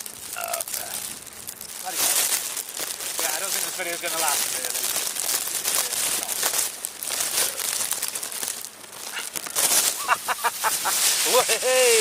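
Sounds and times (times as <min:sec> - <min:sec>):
crackling and rustling on microphone: 0:00.0 - 0:12.0.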